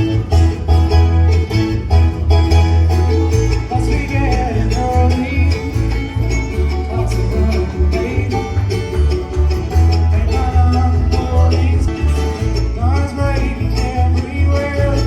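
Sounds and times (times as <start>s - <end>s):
bass line: 0.0s - 15.0s
fiddle-like melody: 0.0s - 15.0s
guitar: 0.0s - 15.0s
picked banjo: 0.0s - 15.0s.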